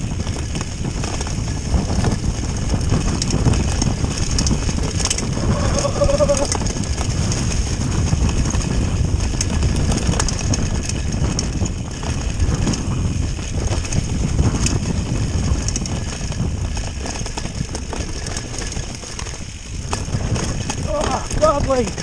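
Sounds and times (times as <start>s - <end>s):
bike clicks and rattles: 0.0s - 22.0s
tyres rumbling on dirt: 0.0s - 22.0s
wind buffeting microphone: 0.0s - 22.0s.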